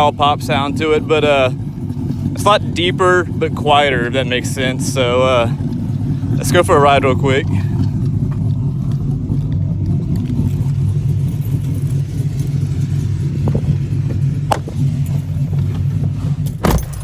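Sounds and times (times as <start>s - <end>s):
truck exhaust idling: 0.0s - 17.0s.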